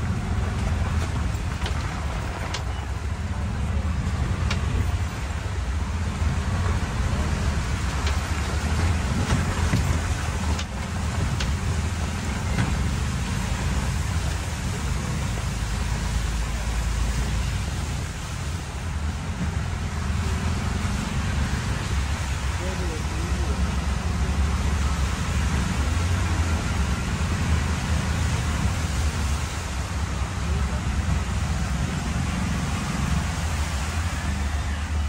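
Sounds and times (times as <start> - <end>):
auto-rickshaw engine rumble: 0.0 - 35.0
rain hissing on wet road: 0.0 - 35.0.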